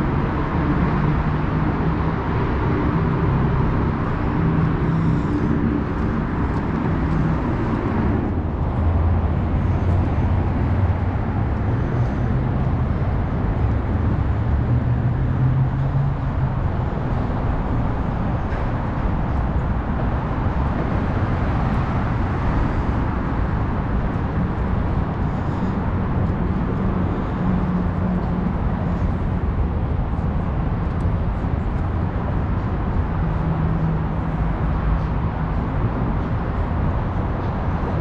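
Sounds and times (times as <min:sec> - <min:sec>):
freeway traffic rumble: 0:00.0 - 0:38.0.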